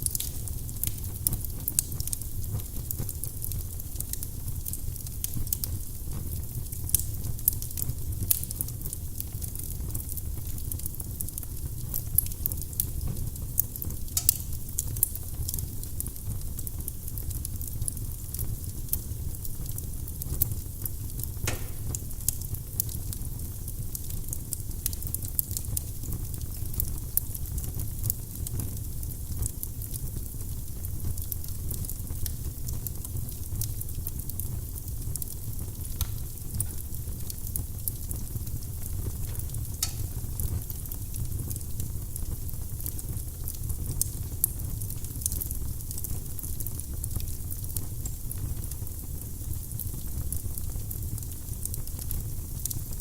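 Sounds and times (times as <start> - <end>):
firewood burning with crackles: 0.0 - 53.0.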